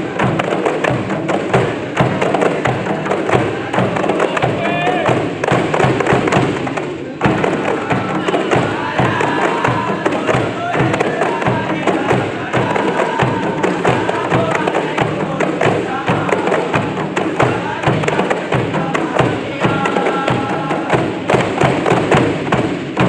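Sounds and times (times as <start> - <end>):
voices singing: 0.0 - 22.5
frame drums beaten in rhythm: 0.0 - 23.0.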